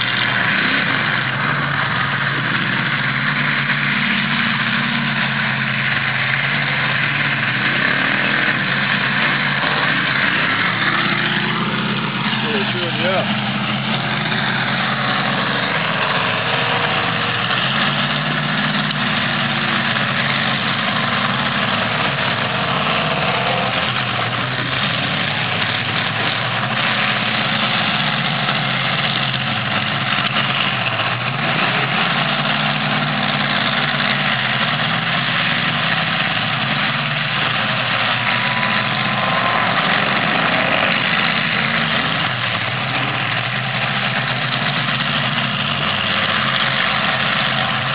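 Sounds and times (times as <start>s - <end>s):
car engines roaring: 0.0s - 47.9s.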